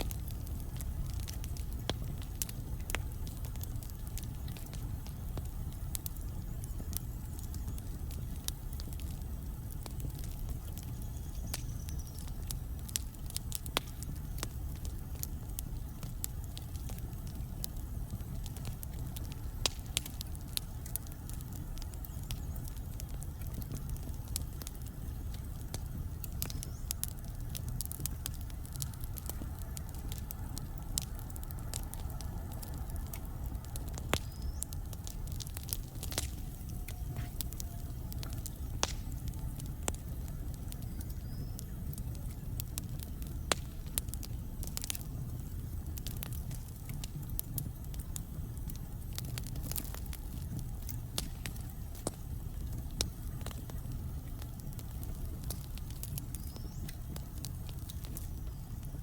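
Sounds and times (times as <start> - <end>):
fire rumbling: 0.0 - 59.0
logs crackling and popping: 0.0 - 59.0.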